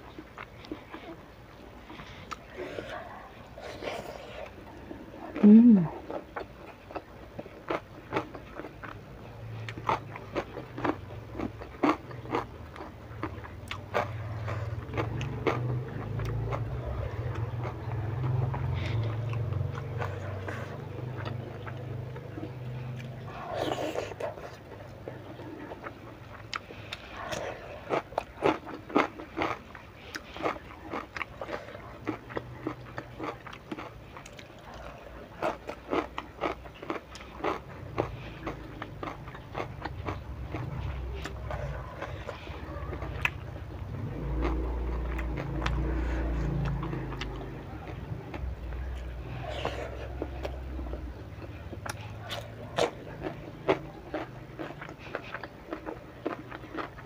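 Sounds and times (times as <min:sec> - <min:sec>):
wet chewing and lip-smacking: 0:00.0 - 0:57.0
mouth clicks and crunches: 0:03.6 - 0:57.0.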